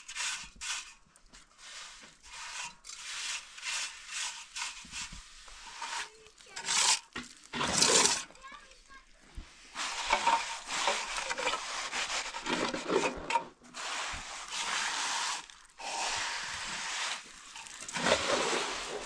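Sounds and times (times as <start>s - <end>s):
trowel scraping wet concrete: 0.0s - 8.4s, 9.7s - 19.0s.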